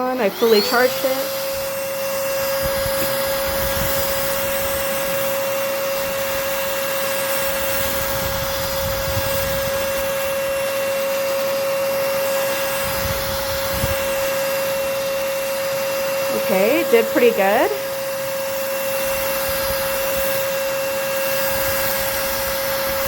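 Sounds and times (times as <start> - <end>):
handheld vacuum cleaner running: 0.0 - 23.0.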